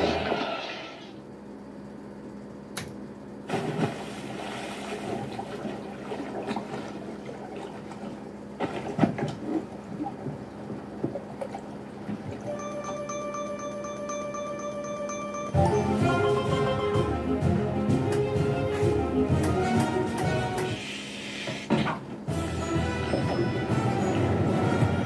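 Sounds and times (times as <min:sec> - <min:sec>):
casino background hum: 0:00.0 - 0:25.0.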